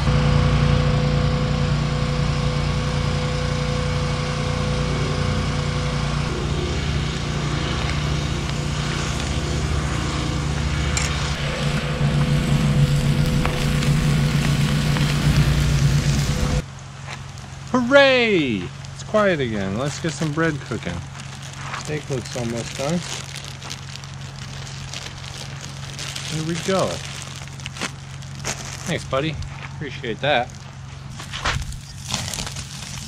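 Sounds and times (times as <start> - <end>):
generator engine running: 0.0 - 33.0.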